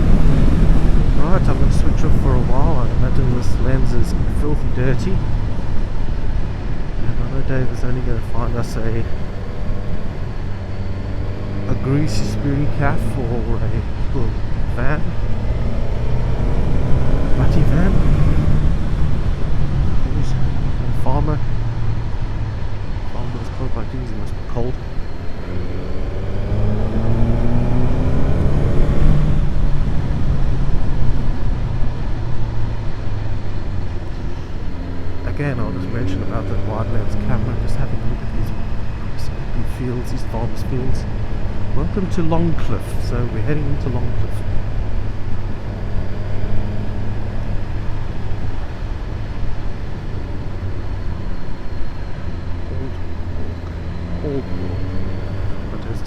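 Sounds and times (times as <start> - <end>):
motorcycle engine revving and cruising: 0.0 - 56.0
wind and road noise: 0.0 - 56.0.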